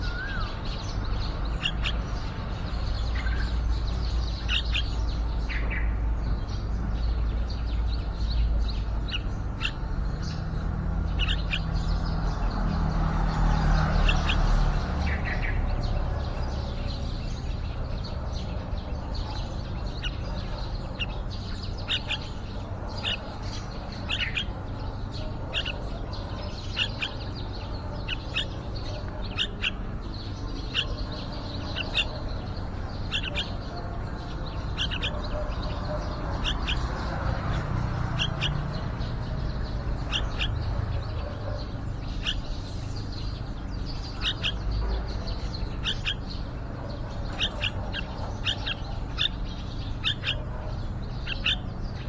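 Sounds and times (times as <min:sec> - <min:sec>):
bulbuls chirping: 0:00.0 - 0:52.0.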